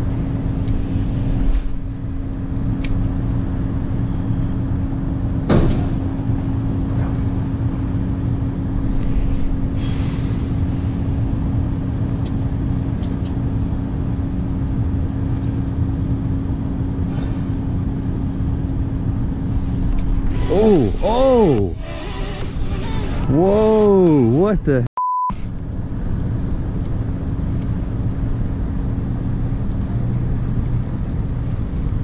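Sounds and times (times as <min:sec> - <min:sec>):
low rumble with hum: 0:00.0 - 0:32.0.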